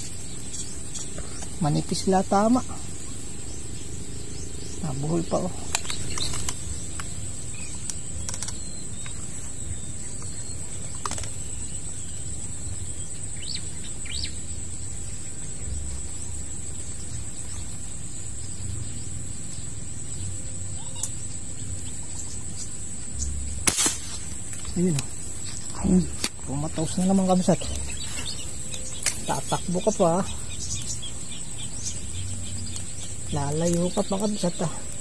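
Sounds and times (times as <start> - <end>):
bird chirps: 0.0 - 35.0
insect trill: 0.0 - 35.0.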